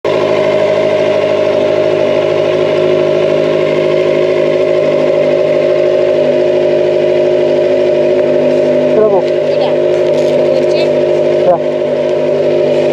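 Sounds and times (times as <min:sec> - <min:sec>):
motorcycle engine running steadily: 0:00.0 - 0:12.9.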